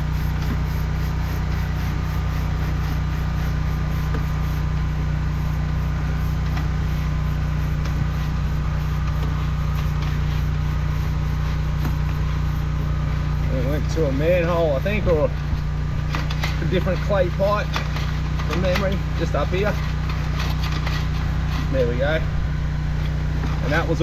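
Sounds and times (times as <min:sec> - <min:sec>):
drain jetter engine humming: 0:00.0 - 0:24.0.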